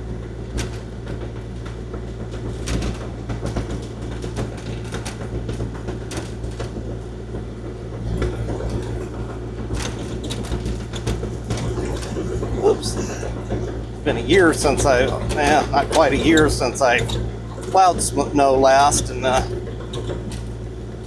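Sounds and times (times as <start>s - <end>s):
knocks and rattles: 0.5s - 18.1s
excavator diesel engine running: 1.2s - 21.0s.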